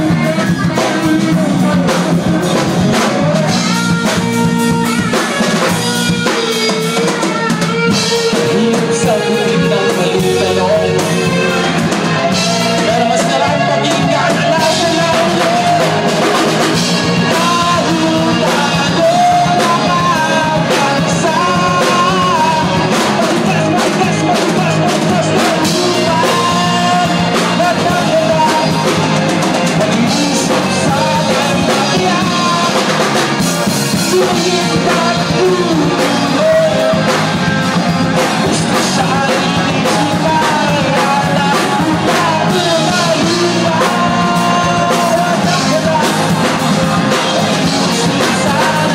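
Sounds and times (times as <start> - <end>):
drum kit: 0.0 - 48.9
electric keyboard: 0.0 - 48.9
person singing: 0.0 - 48.9.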